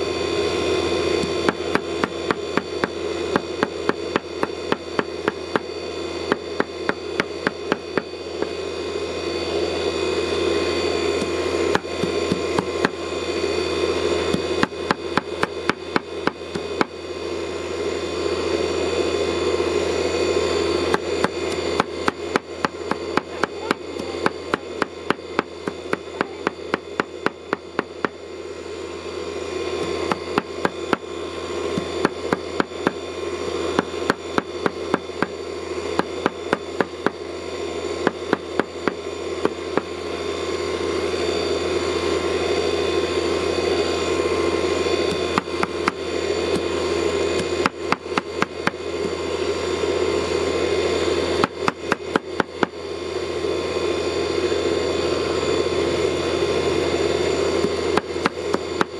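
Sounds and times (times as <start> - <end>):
steady hum: 0.0 - 58.9.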